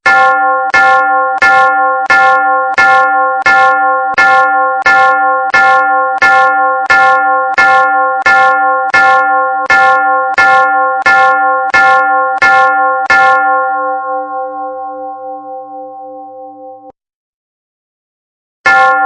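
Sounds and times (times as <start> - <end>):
church bell strokes: 0.0 - 16.9, 18.7 - 19.0.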